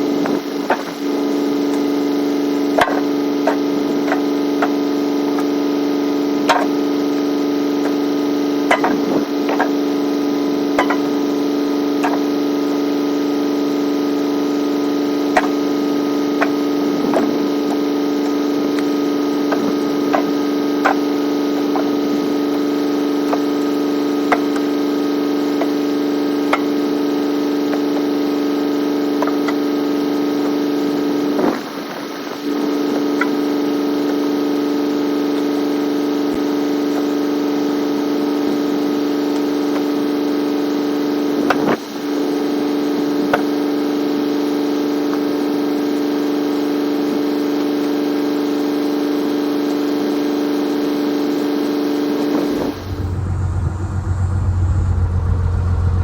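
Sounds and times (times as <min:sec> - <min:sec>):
low engine sound: 0:00.0 - 0:56.0
machine hum with whine: 0:00.0 - 0:56.0.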